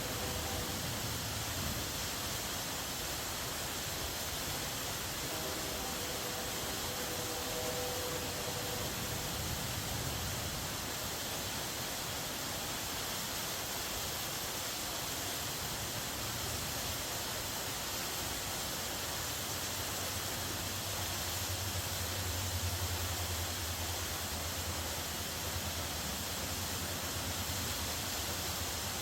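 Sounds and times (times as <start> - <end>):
waterfall pouring: 0.0 - 29.0.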